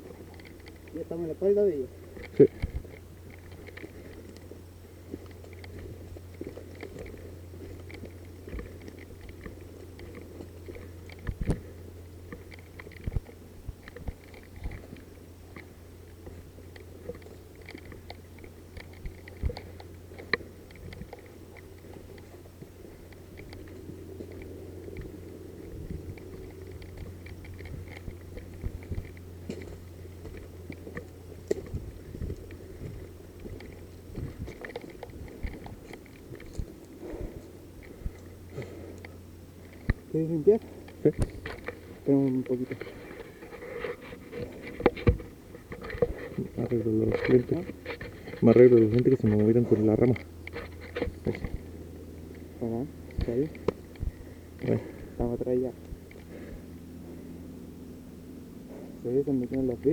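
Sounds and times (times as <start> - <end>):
footsteps through dry brush: 0.0 - 55.2
steady low hum: 0.0 - 59.9.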